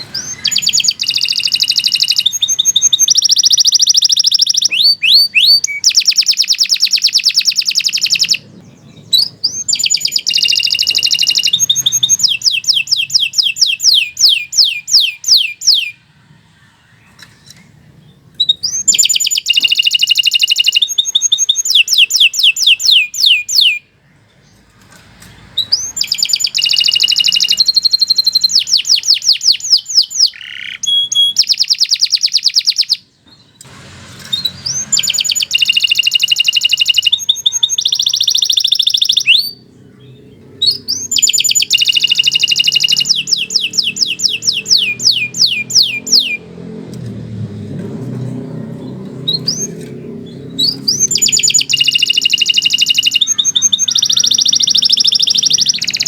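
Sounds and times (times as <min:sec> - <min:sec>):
canary singing trills: 0:00.0 - 0:33.7, 0:34.3 - 0:46.9, 0:48.3 - 0:56.0.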